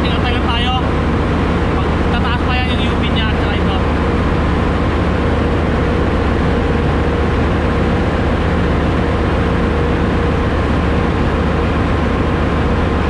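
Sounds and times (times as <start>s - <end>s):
engine room machinery hum: 0.0s - 13.0s.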